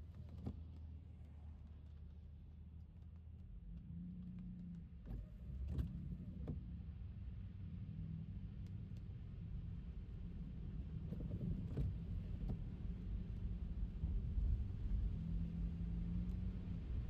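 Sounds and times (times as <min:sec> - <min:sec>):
car road rumble on wet streets: 0:00.0 - 0:17.0.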